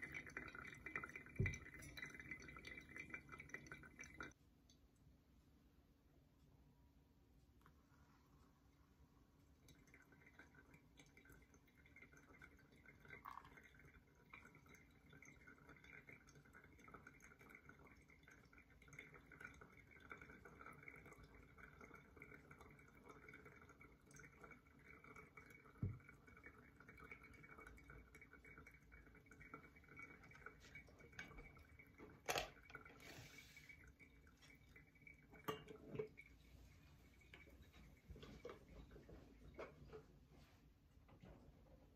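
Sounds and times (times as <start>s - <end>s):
water trickling onto coffee grounds: 0.0s - 5.1s, 7.4s - 41.9s.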